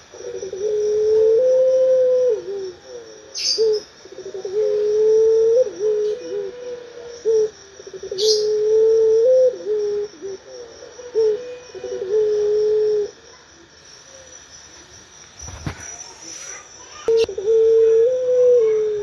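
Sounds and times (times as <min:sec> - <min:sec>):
dove cooing: 0:00.0 - 0:14.3, 0:16.6 - 0:19.0.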